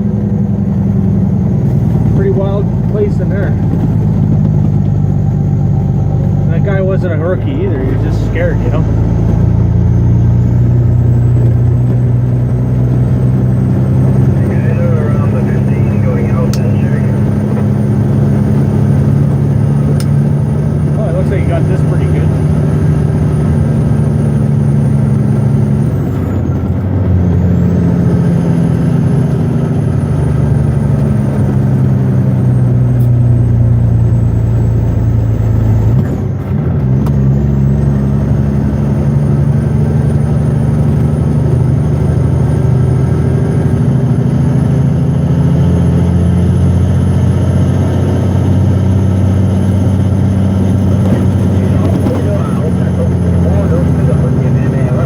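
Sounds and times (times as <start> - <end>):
diesel truck engine running hard: 0.0 - 55.0.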